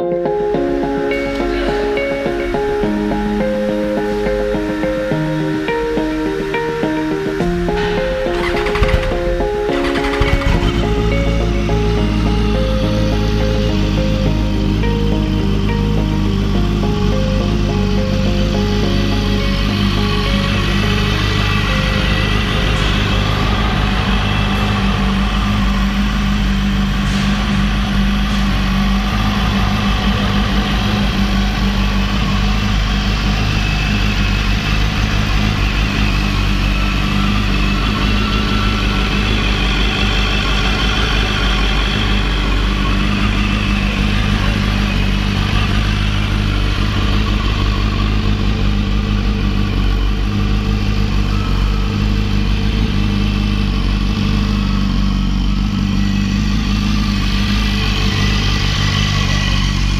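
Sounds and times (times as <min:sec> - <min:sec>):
motorcycle engine idling: 0:07.3 - 0:59.9.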